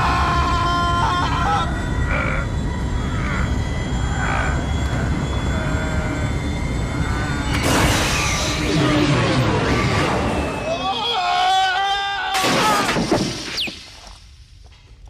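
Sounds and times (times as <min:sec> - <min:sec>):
spaceship engines rumbling: 0:00.0 - 0:12.3.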